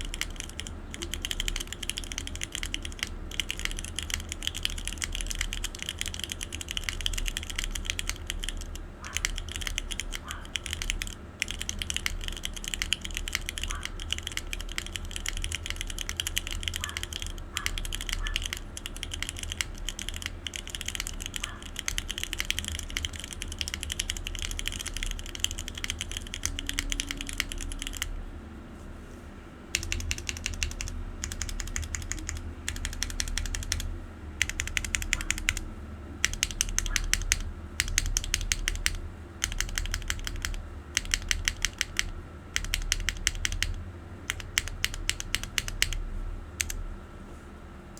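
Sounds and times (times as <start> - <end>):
mechanical keyboard typing: 0.0 - 28.3, 29.7 - 47.0.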